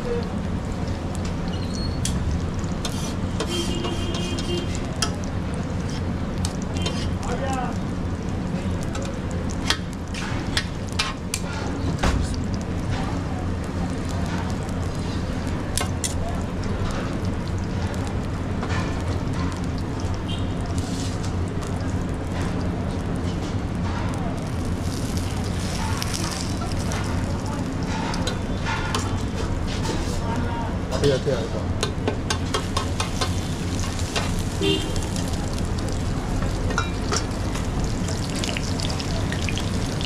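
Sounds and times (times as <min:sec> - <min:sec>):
busy street rumble: 0:00.0 - 0:40.0
food sizzling on a griddle: 0:00.0 - 0:40.0.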